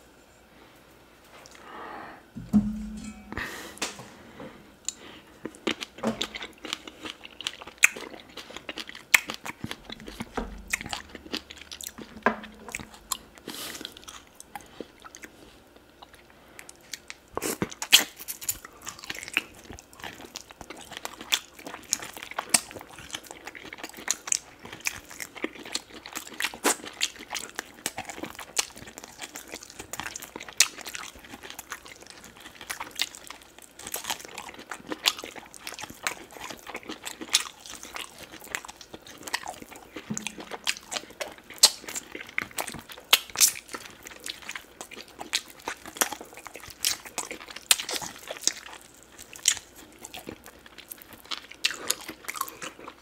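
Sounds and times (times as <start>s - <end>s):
man chewing and biting meat: 4.9s - 53.0s.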